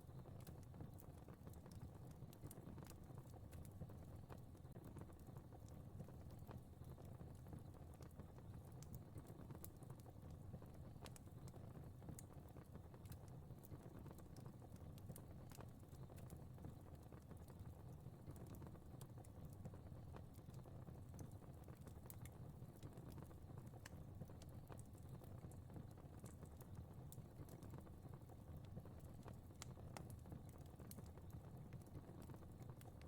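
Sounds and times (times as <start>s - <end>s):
fire crackling and popping: 0.1s - 33.0s.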